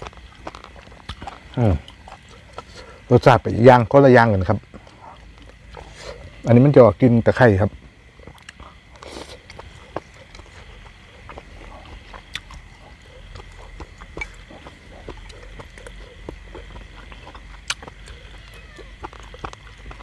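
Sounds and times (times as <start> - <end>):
person chewing and eating: 0.0 - 3.5, 4.5 - 6.5, 7.8 - 20.0.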